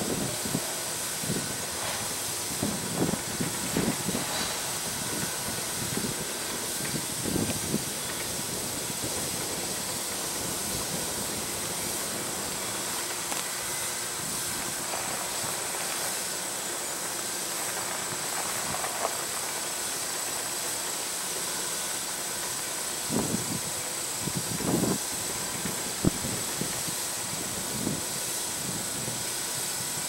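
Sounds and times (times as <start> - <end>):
steam locomotive exhaust hiss: 0.0 - 30.0.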